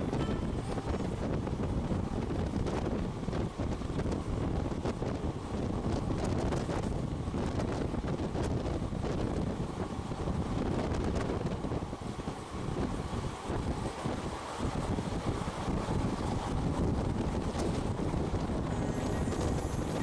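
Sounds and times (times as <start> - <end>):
moving train rumble: 0.0 - 20.0
wind buffeting microphone: 0.0 - 20.0.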